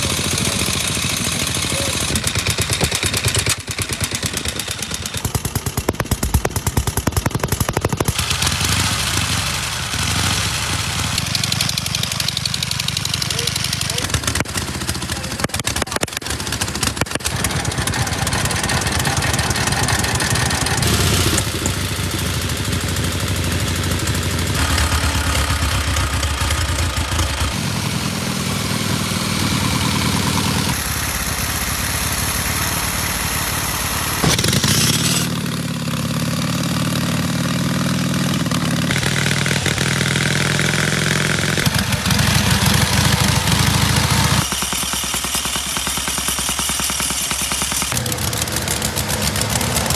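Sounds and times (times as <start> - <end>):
motorcycle engines running: 0.0 - 49.9.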